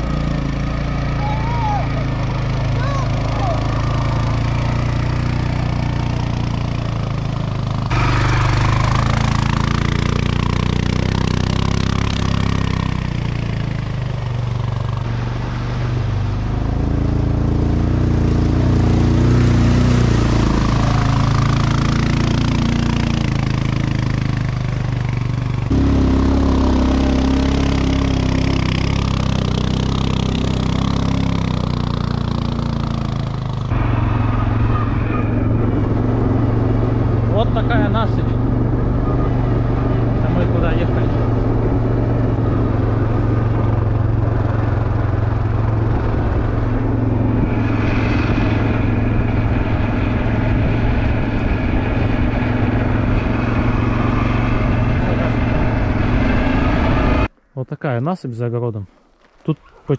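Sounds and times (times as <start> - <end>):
quad bike engine revving: 0.0 - 57.3.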